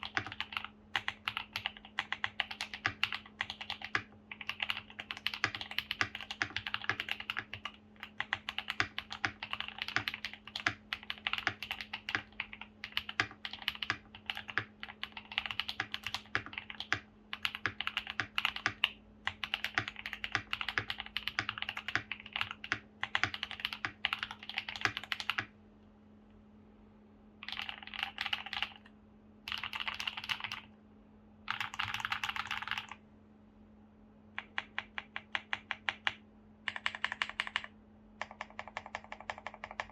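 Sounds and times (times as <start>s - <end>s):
mechanical keyboard typing: 0.0s - 25.5s, 27.4s - 28.9s, 29.5s - 30.7s, 31.5s - 33.0s, 34.4s - 39.9s
faint steady hum: 0.0s - 39.9s.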